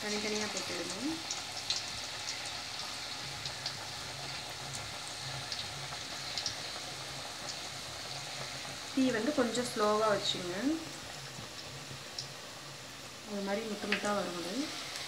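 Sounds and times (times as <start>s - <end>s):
batter frying in hot oil: 0.0s - 15.0s.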